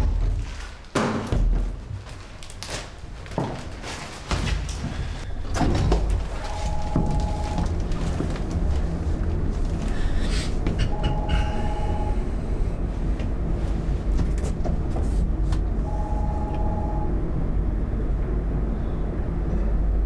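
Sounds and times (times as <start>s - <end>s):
lift machinery rumble: 1.6s - 20.0s.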